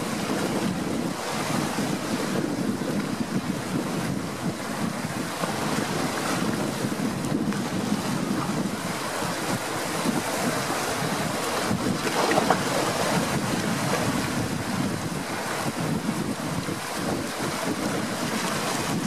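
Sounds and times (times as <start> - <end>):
loud wave splash: 0.0 - 19.0
sea waves breaking on rocks: 0.0 - 19.0.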